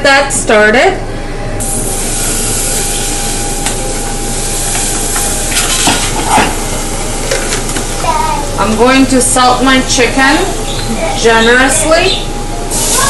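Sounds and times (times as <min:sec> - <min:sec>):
pans sizzling: 0:01.6 - 0:13.0.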